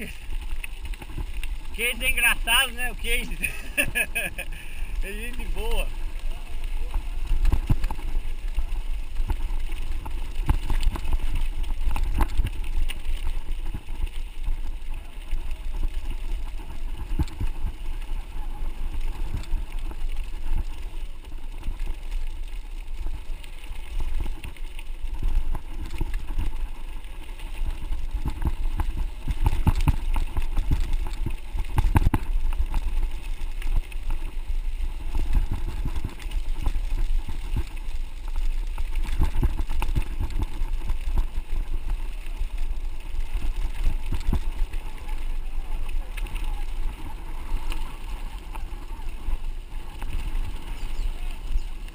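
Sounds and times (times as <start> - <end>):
bike tyres rumbling on dirt: 0.0 - 51.9.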